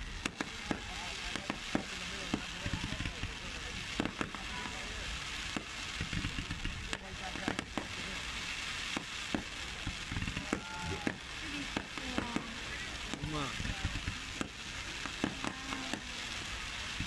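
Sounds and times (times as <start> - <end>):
fireworks crackling hiss: 0.0 - 17.0
fireworks pops and cracks: 0.0 - 17.0.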